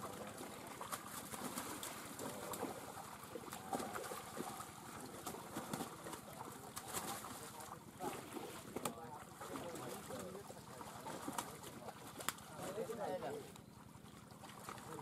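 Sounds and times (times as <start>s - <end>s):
fish splashing in shallow water: 0.0s - 15.0s.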